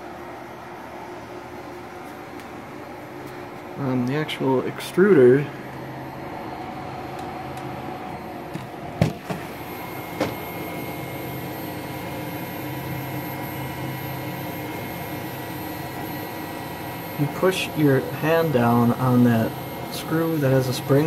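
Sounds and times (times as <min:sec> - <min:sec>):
printer stepper motors whining: 0:02.1 - 0:21.0.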